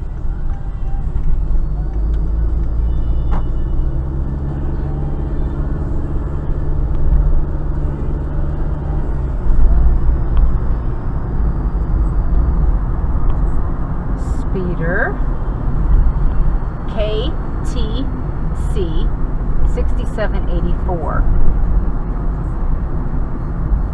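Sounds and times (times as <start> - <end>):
car engine and tyre rumble: 0.0 - 23.9.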